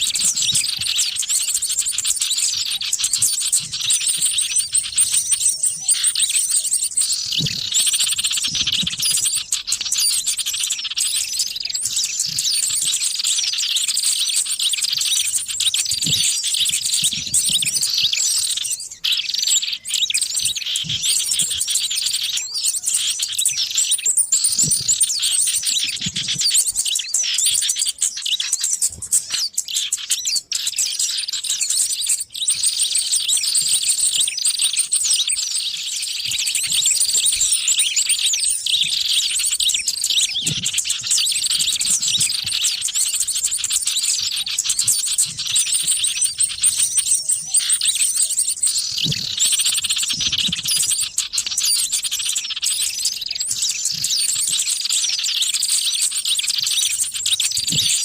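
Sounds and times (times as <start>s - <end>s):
chorus of small birds chirping: 0.0s - 58.0s.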